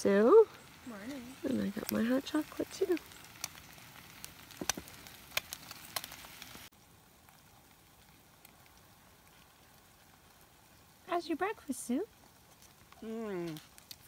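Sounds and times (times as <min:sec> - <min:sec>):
eggs sizzling in a frying pan: 0:00.0 - 0:14.0.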